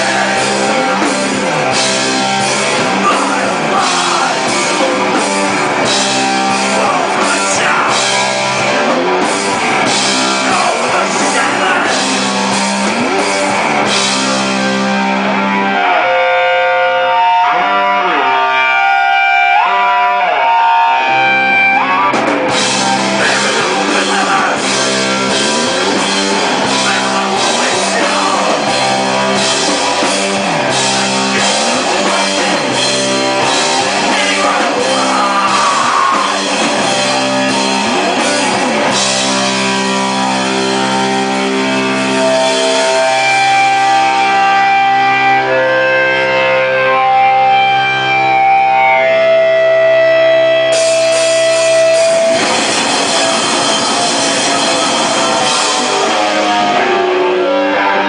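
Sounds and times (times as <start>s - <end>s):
hardcore band playing live: 0.0s - 58.0s
ringing guitar notes: 0.0s - 58.0s.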